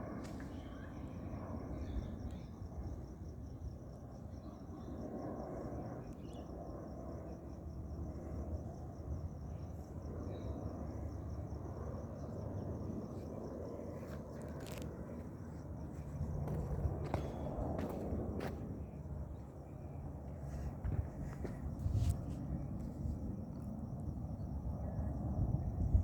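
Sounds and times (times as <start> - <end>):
distant jet airliner rumble: 0.0 - 26.0
faint pulsing insect chirp: 0.0 - 26.0.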